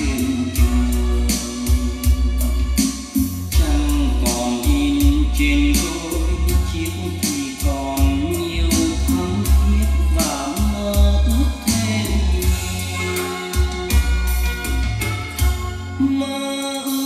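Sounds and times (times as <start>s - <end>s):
song over loudspeakers: 0.0s - 17.0s.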